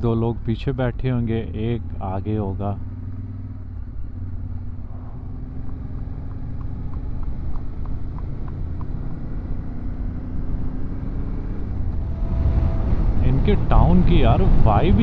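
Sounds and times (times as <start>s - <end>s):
motorcycle engine running: 1.6s - 15.0s.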